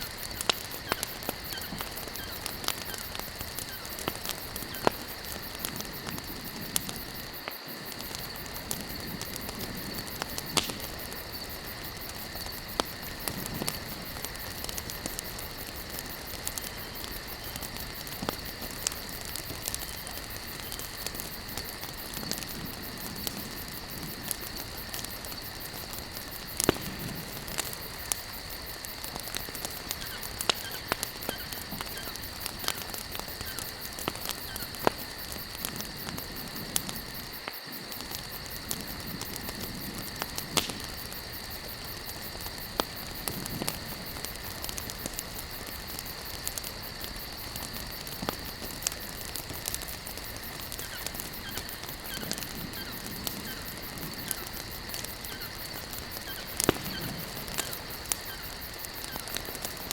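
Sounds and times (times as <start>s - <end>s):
campfire crackling and popping: 0.0s - 59.9s
insect chorus: 0.0s - 59.9s.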